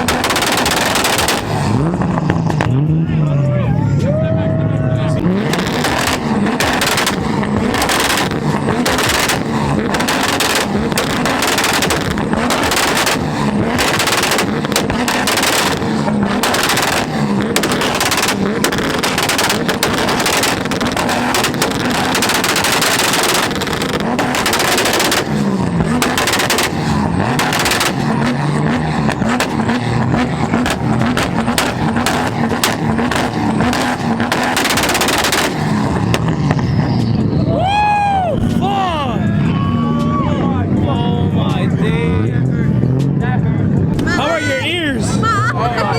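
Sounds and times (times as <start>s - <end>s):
exhaust pops: 0.0s - 3.1s, 5.1s - 39.3s, 43.9s - 44.9s
engine bouncing at rev limiter: 0.0s - 45.9s.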